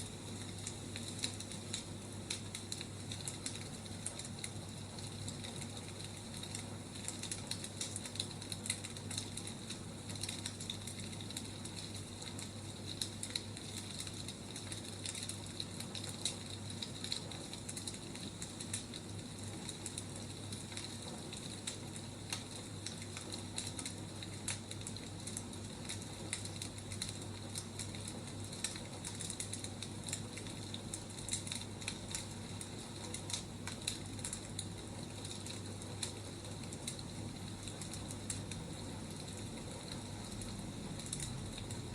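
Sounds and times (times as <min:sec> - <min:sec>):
firewood crackling: 0:00.0 - 0:41.9.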